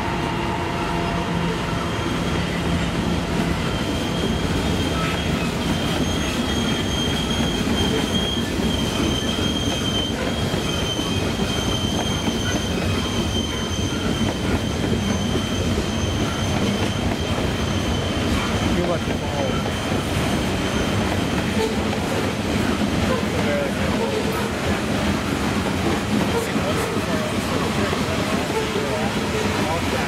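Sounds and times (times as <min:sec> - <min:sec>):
train wheels rumbling on rail: 0:00.0 - 0:30.0
high wheel squeal: 0:01.5 - 0:24.8, 0:26.1 - 0:30.0.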